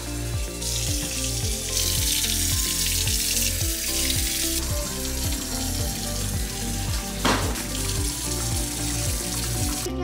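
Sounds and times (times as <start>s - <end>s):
background music with steady beat: 0.0s - 10.0s
faucet running into steel bowl: 0.4s - 9.9s.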